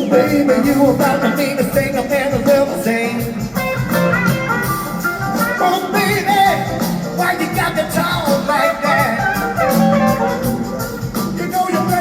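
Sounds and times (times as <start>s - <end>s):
bending lead guitar line: 0.0s - 12.0s
blues-rock band playing: 0.0s - 12.0s.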